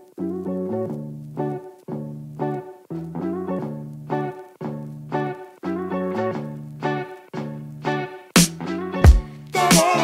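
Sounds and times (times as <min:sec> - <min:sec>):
plucked guitar tune: 0:00.0 - 0:10.0.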